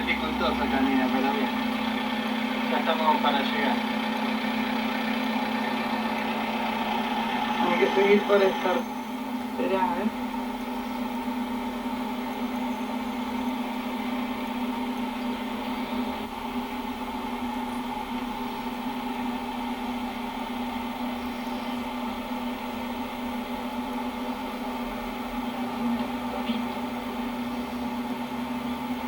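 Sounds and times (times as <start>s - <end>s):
car engine hum: 0.0s - 29.0s
road noise inside car: 0.0s - 29.0s.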